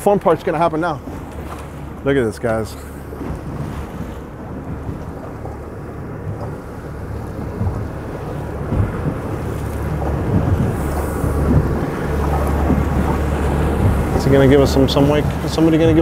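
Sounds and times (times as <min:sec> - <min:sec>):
boat engines rumbling: 0:00.0 - 0:16.0
wind buffeting microphone: 0:00.0 - 0:16.0.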